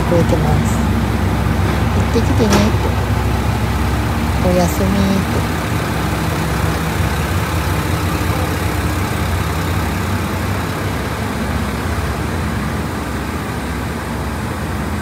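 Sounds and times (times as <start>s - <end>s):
train diesel engines idling: 0.0s - 15.0s.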